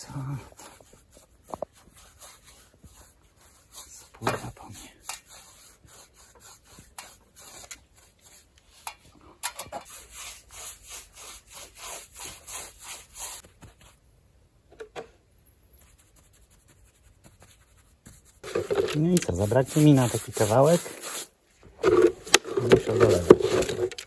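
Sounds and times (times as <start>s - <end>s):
paintbrush scrubbing wood: 0.0s - 8.9s, 9.8s - 13.9s, 15.8s - 23.9s.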